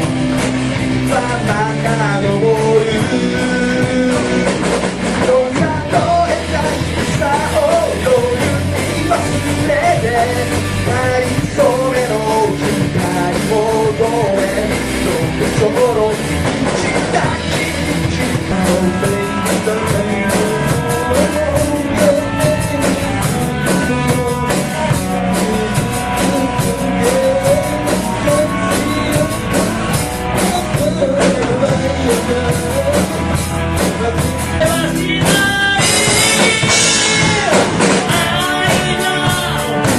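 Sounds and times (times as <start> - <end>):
person singing lead vocal: 0.0 - 39.9
rock band playing: 0.0 - 39.9.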